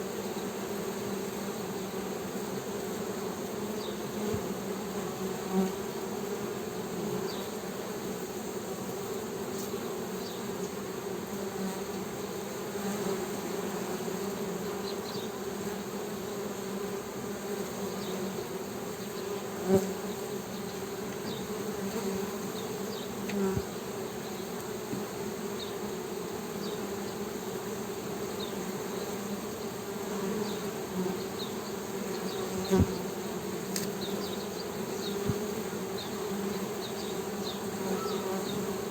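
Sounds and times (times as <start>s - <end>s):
honey bees humming: 0.0s - 38.9s.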